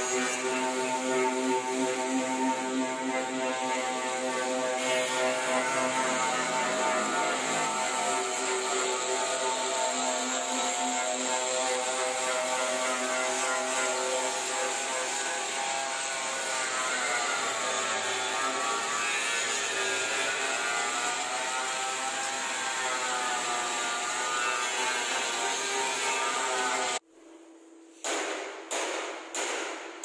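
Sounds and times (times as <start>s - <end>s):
power sander whining on metal: 0.0s - 27.0s.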